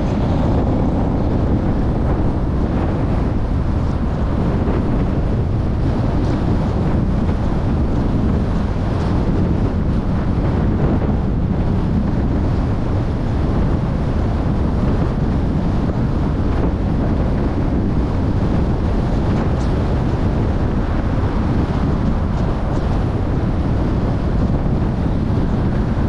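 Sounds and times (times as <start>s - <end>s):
car road noise rumble: 0.0s - 26.0s
wind buffeting microphone: 0.0s - 26.0s.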